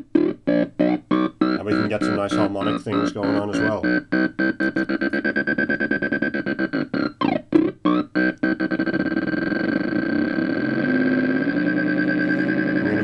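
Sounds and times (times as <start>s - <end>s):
pulsing electronic tone: 0.0s - 13.0s.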